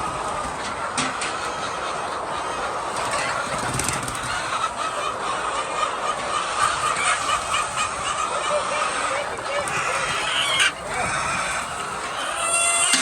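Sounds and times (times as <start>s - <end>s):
flock of chickens clucking: 0.0s - 13.0s.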